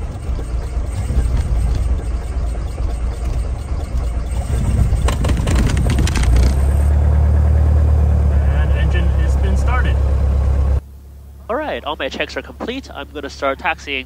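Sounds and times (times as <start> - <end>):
piston aircraft engine idling: 0.0 - 14.0.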